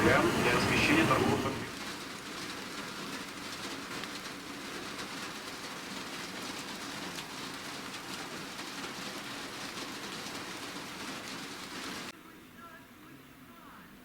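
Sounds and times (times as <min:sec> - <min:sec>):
steady rain patter: 0:00.0 - 0:14.0.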